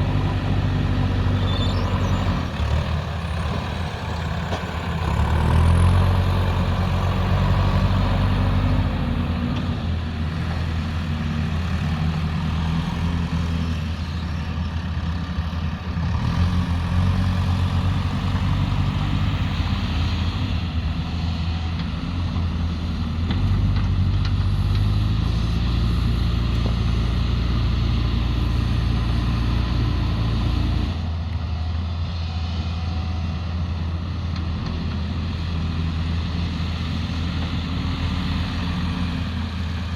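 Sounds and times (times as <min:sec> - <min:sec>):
heavy machinery diesel engines: 0:00.0 - 0:39.9.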